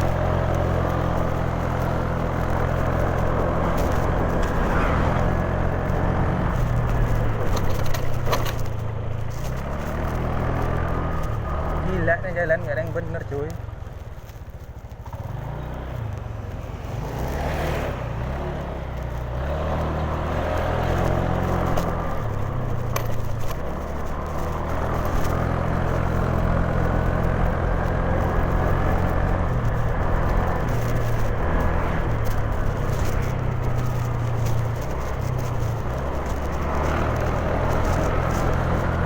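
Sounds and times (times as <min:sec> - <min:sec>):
scooter engine running: 0:00.0 - 0:12.2, 0:13.1 - 0:39.0
road rumble: 0:00.0 - 0:39.0.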